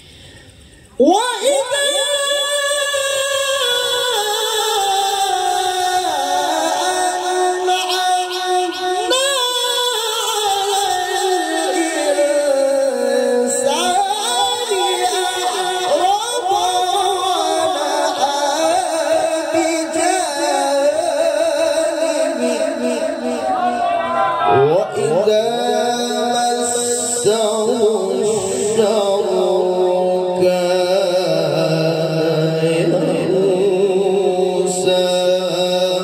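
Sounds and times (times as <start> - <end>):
man singing over pa system: 0.9 - 36.0.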